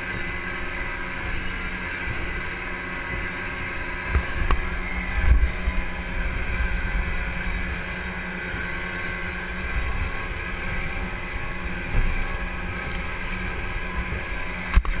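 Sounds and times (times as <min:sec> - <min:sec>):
outboard motors running: 0:00.0 - 0:15.0
water rushing past hull: 0:00.0 - 0:15.0
wind buffeting microphone: 0:00.0 - 0:15.0.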